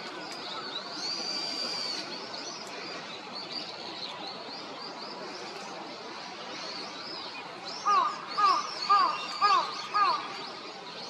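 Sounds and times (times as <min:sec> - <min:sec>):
constant background noise: 0:00.0 - 0:11.0.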